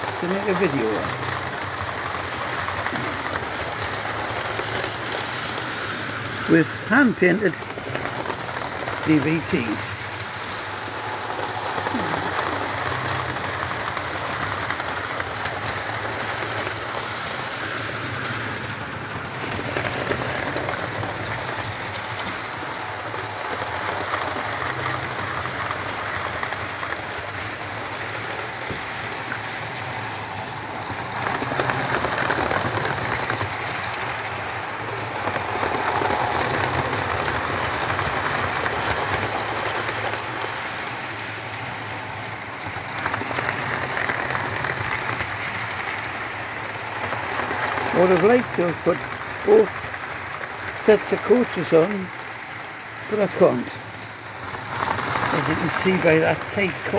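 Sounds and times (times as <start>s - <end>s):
model trains rattling whir: 0.0s - 56.9s.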